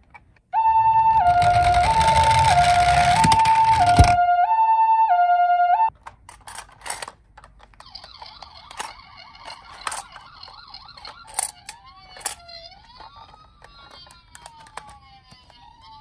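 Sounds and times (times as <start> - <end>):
toy electronic siren wailing: 0.6 - 5.9, 7.8 - 16.0
plastic toys clicking and knocking: 1.2 - 4.2, 5.9 - 16.0.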